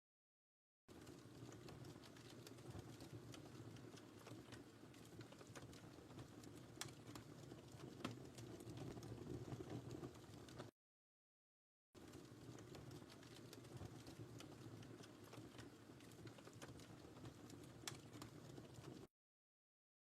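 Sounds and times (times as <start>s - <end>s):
wood fire crackling: 0.9s - 10.7s, 12.0s - 19.1s.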